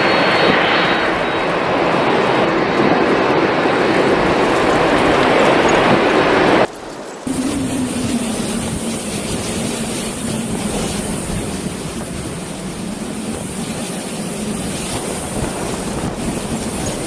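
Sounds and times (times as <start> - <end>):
storm wind and rain: 0.0 - 17.0
wind buffeting microphone: 0.0 - 17.0.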